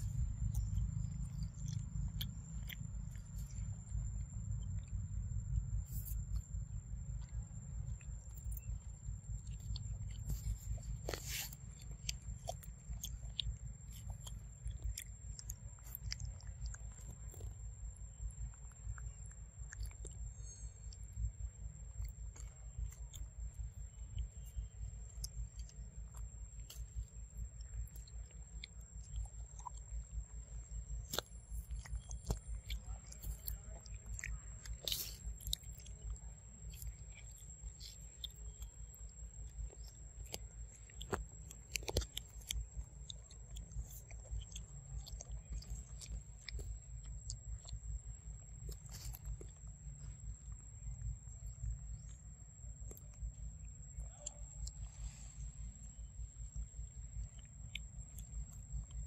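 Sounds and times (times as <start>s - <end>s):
monkeys chewing fruit: 0.0s - 59.0s.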